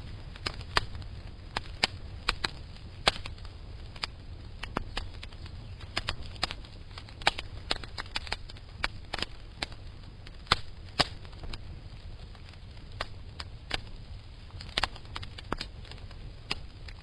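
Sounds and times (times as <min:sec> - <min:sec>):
sharp clicks and crackles: 0:00.0 - 0:17.0.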